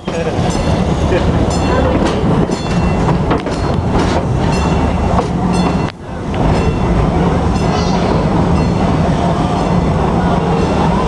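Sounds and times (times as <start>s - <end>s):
train cars rumbling and clattering: 0.0s - 11.0s.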